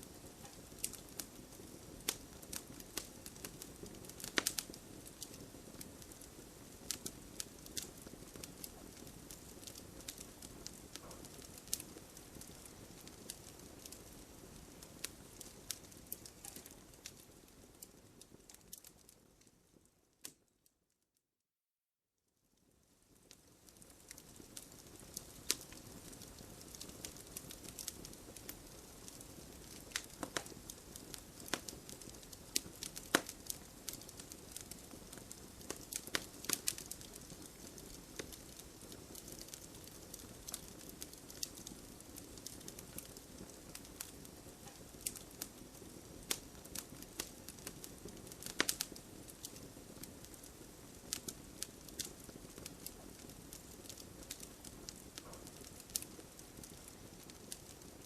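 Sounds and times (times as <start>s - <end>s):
campfire crackling and popping: 0.0s - 20.5s, 23.1s - 58.0s.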